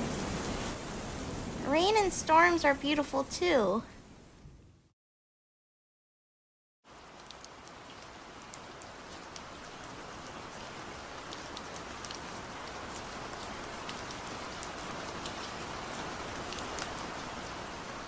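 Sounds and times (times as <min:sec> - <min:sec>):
steady rain falling: 0:00.0 - 0:04.6, 0:06.9 - 0:18.0.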